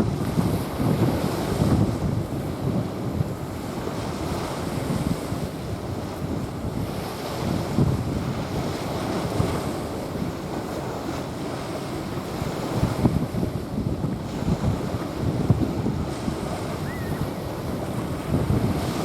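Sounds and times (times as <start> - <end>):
small waves washing on sand: 0.0 - 19.0
wind buffeting microphone: 0.0 - 19.0.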